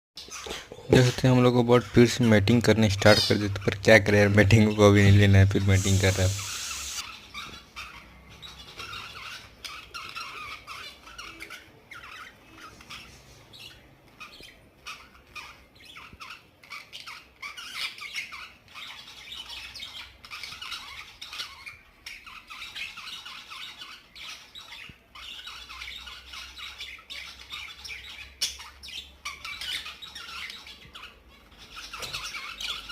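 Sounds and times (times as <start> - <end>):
budgerigars chattering: 0.2 - 32.9.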